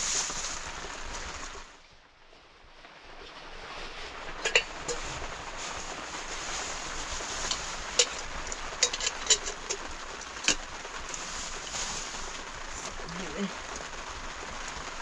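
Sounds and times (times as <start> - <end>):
rainstorm hiss: 0.0 - 15.0.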